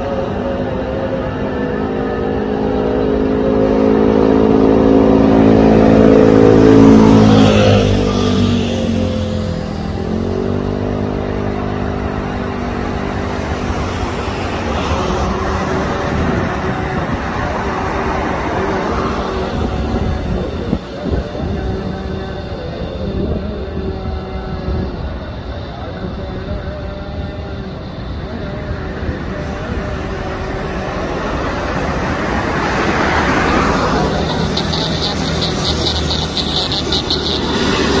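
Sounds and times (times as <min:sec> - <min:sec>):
vehicle passing by: 0:00.0 - 0:23.3, 0:27.8 - 0:38.0
steady vehicle engine: 0:00.0 - 0:38.0.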